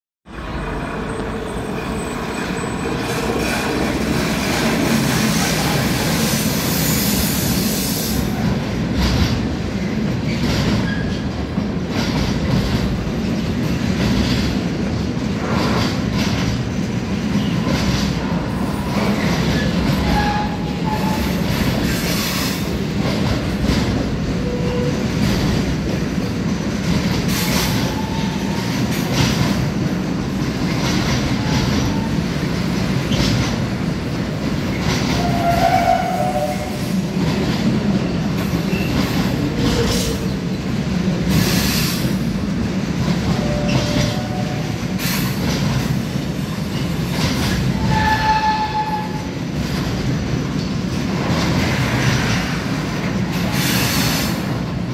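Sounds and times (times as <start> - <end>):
freight train wheels clattering: 1.5 - 54.9.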